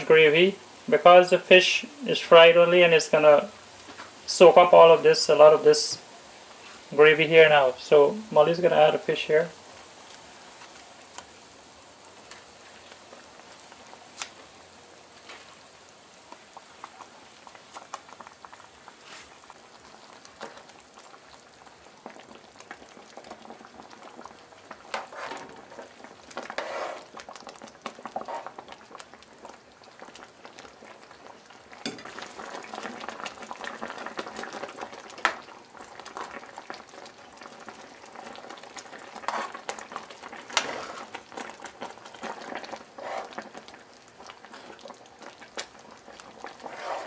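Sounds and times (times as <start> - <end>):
gravy bubbling in a pan: 0.0 - 47.0.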